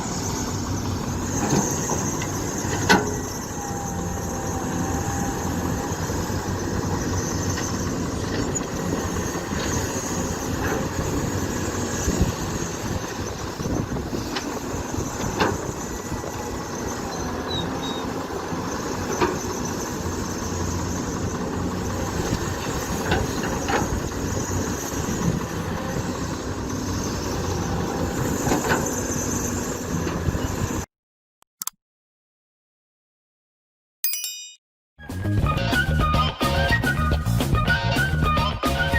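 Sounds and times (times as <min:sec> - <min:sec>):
excavator diesel engine running: 0:00.0 - 0:30.9, 0:35.0 - 0:38.9.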